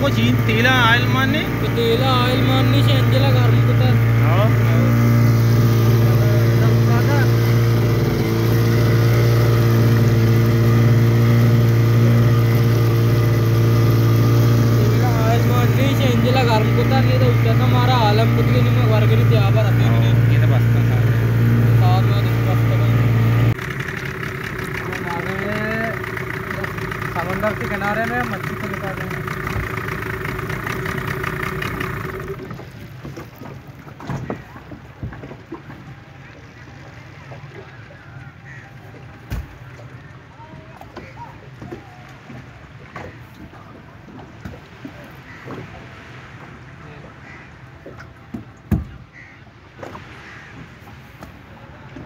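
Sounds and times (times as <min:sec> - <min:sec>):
motorboat engine humming: 0:00.0 - 0:52.0.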